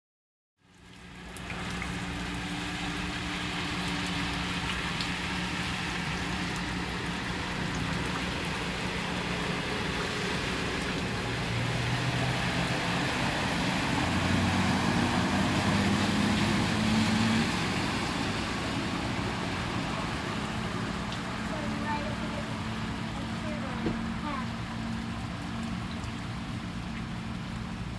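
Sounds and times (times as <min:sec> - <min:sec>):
vehicle engine humming: 0:00.7 - 0:27.9
constant rushing noise: 0:01.0 - 0:27.9.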